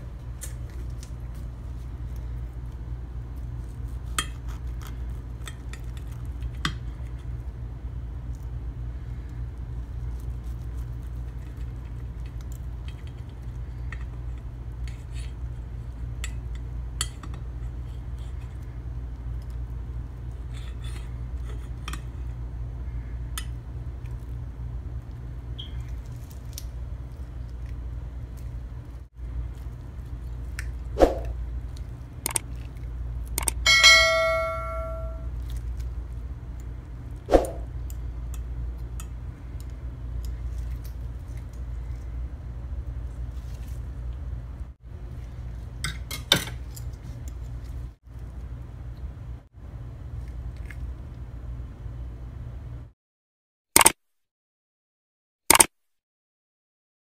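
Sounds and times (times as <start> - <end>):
low hum: 0.0 - 45.8.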